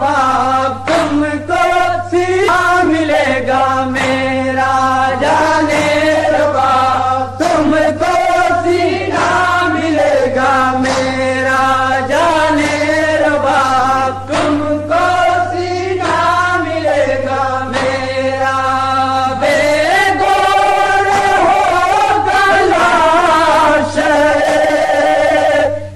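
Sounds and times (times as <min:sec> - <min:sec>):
male voices chanting in chorus: 0:00.0 - 0:25.9
steady low hum: 0:00.0 - 0:25.9.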